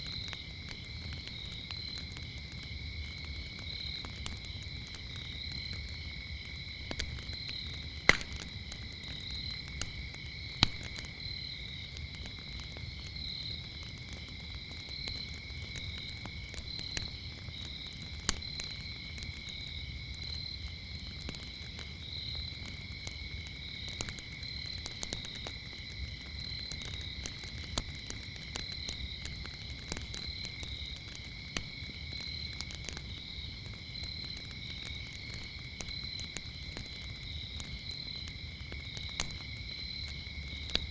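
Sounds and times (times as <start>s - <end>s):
crickets chirping: 0.0s - 40.9s
wood fire crackling: 0.0s - 40.9s.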